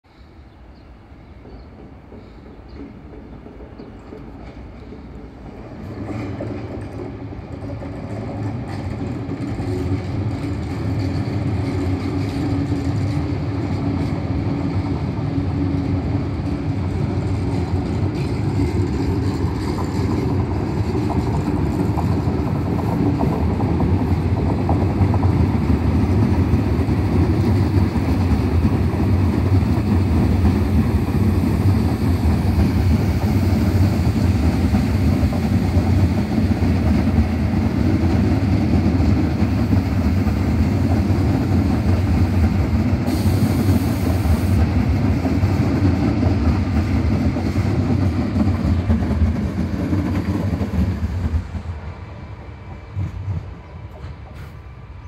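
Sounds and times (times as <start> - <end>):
train wheels on rails: 0.1 - 55.0.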